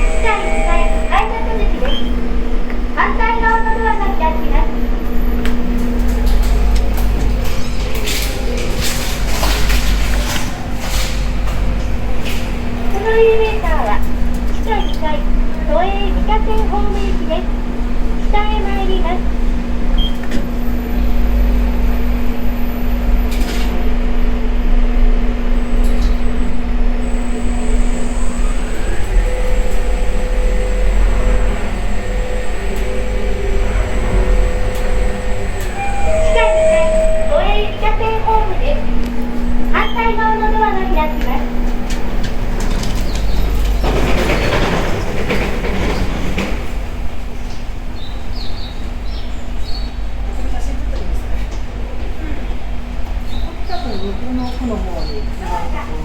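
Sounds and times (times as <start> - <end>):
elevator hum: 0.0 - 56.0
subway train rumble and clatter: 0.0 - 56.0.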